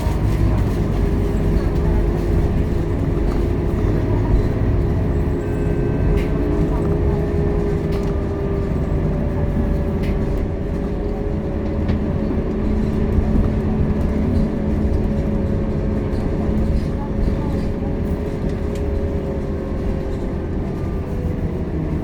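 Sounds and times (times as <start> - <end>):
bus engine running: 0.0 - 22.0
road rumble: 0.0 - 22.0.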